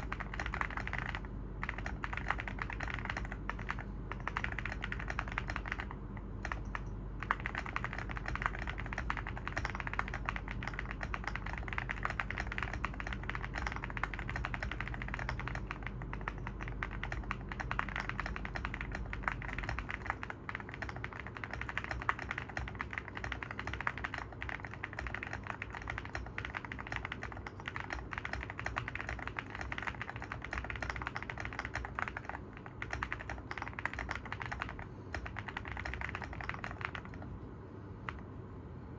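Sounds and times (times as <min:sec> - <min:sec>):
mechanical keyboard typing: 0:00.0 - 0:37.4.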